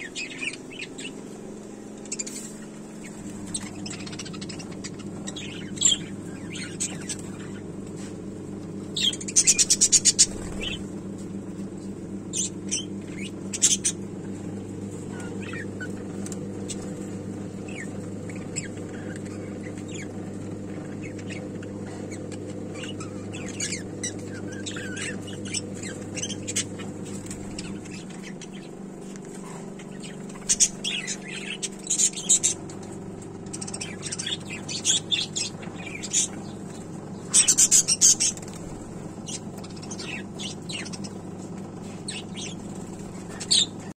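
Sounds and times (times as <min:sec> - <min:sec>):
budgerigars chirping: 0:00.0 - 0:01.2, 0:02.0 - 0:08.1, 0:08.9 - 0:10.9, 0:12.3 - 0:14.4, 0:15.1 - 0:16.0, 0:16.6 - 0:28.8, 0:29.4 - 0:41.2, 0:41.8 - 0:43.9
steady low hum: 0:00.0 - 0:44.0.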